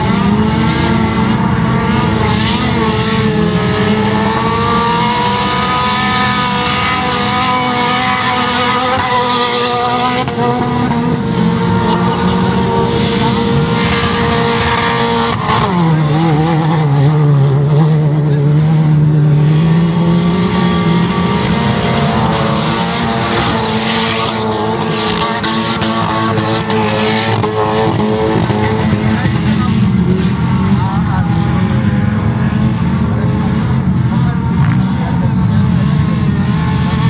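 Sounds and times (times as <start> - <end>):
car engines revving high: 0.0 - 37.0.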